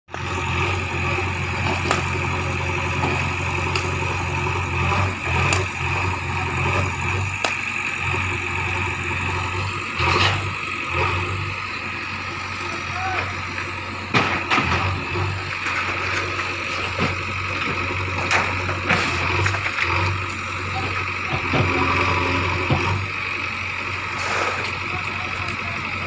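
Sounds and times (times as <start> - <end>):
diesel engine running: 0.1 - 26.0.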